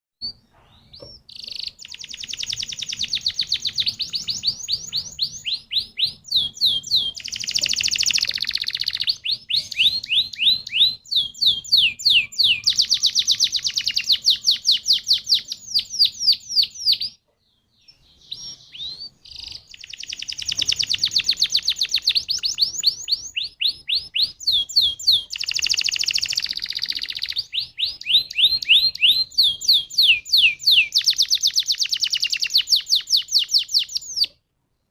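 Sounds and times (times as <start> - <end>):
canary singing trills: 0.2 - 34.4.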